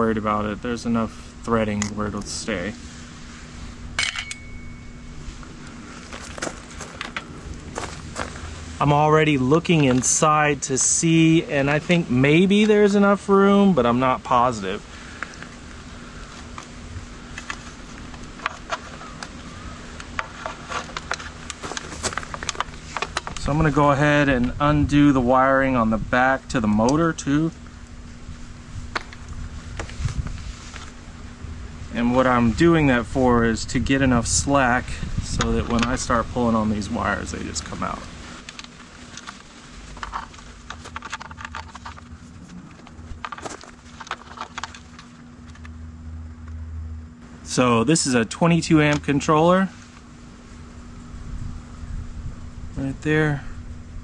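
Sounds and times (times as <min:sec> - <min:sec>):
rustling of wires: 0:00.0 - 0:54.0.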